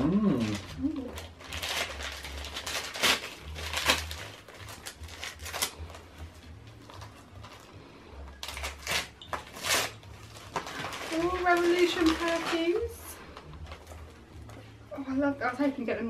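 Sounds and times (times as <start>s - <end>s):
wrapping paper tearing and crumpling: 0.0s - 14.6s.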